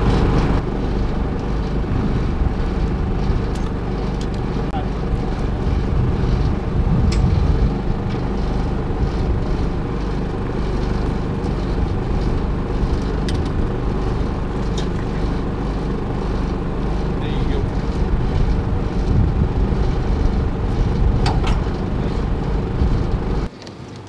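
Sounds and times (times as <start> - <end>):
boat motor drone: 0.0 - 23.5.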